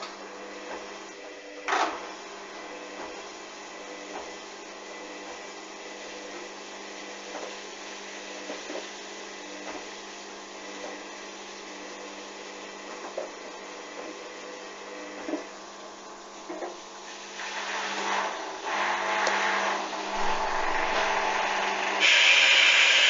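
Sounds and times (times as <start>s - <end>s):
washing machine hum: 0.0s - 22.5s.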